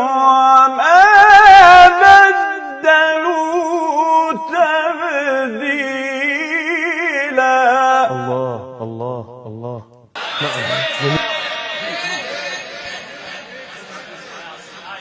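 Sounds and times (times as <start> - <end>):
man chanting melismatically: 0.0 - 12.3.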